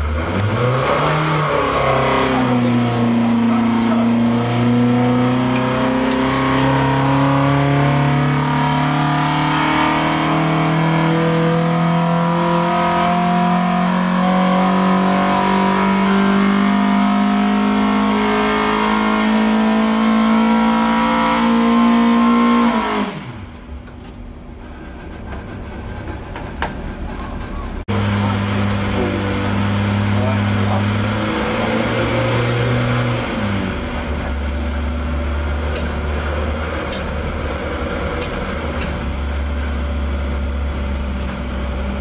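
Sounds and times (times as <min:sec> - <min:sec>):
car engine revving under load: 0:00.0 - 0:42.0.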